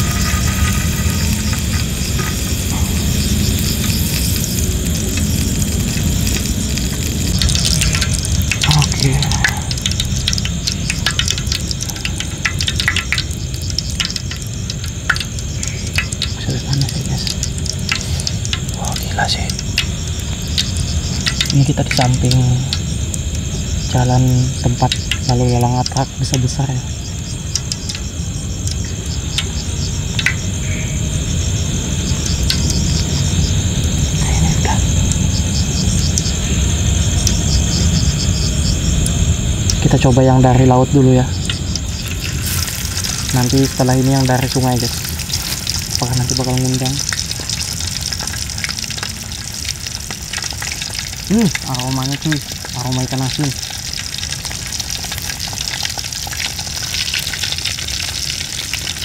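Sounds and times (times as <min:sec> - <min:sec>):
oil crackling: 0:00.0 - 0:30.5, 0:32.0 - 0:59.0
frogs and insects chorus: 0:00.0 - 0:59.0
gas stove burner rumble: 0:00.0 - 0:59.0.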